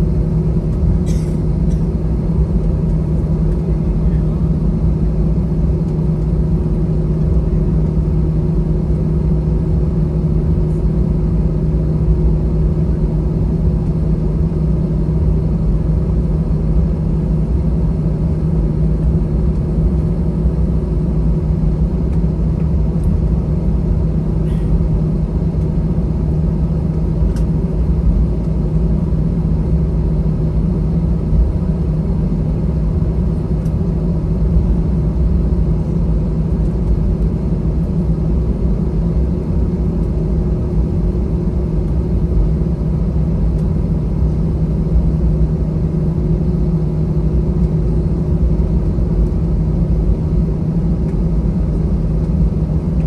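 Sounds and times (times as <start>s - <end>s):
aircraft cabin rumble: 0.0s - 53.0s
jet engines humming: 0.0s - 53.0s.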